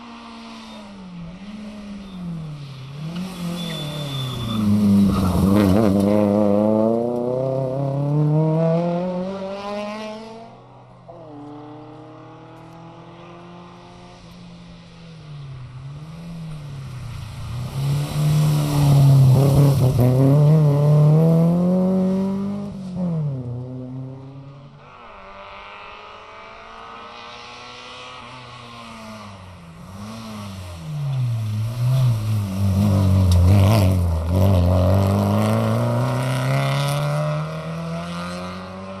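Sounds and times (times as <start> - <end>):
rally cars passing at speed: 0.0 - 39.0.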